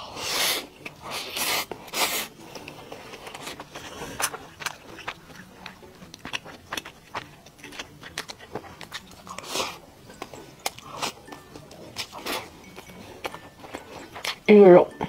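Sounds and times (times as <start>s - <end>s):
person chewing with mouth clicks: 0.2s - 14.5s.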